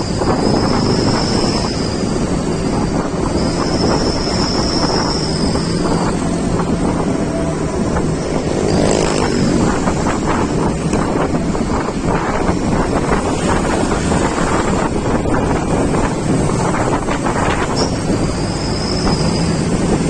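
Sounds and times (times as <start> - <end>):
vehicle engine and road noise: 0.0 - 20.0
wind buffeting microphone: 0.0 - 20.0.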